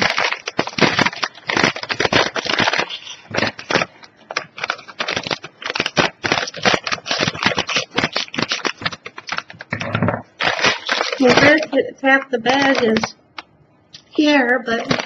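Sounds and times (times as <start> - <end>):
crunchy snacks rattling in bag: 0.0 - 11.8, 12.5 - 13.2, 14.0 - 15.0
plastic snack bag crinkling: 0.0 - 15.0.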